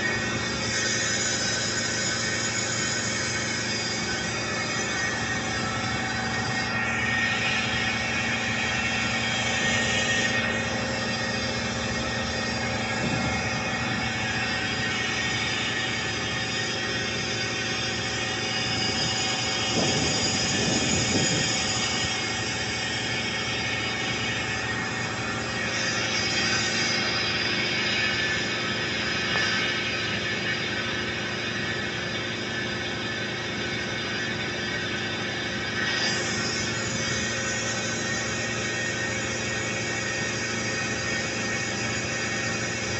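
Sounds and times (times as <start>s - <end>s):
industrial machinery drone: 0.0s - 42.9s.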